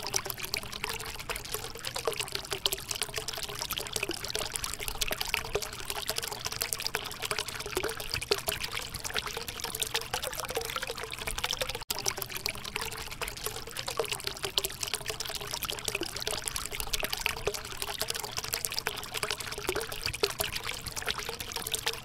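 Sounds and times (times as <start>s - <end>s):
water trickling over rocks: 0.0s - 22.0s.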